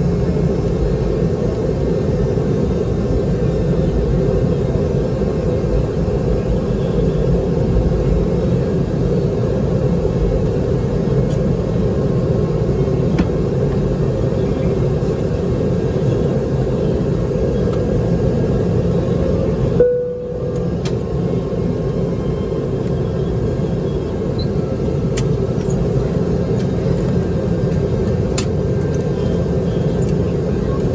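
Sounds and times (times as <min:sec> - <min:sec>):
airliner cabin rumble: 0:00.0 - 0:30.9
constant hum: 0:00.0 - 0:30.9.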